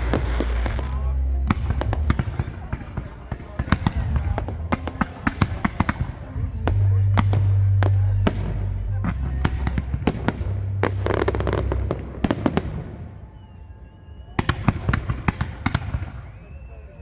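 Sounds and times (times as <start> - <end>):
fireworks bangs: 0.0 - 13.5, 14.4 - 16.5.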